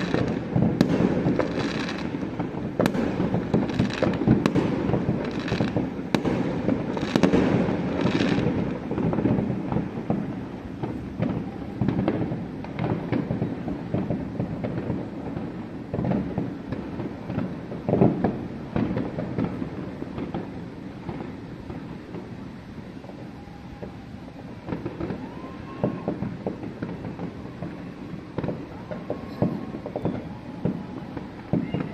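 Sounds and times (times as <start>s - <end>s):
fireworks bursting and crackling: 0.0s - 31.9s.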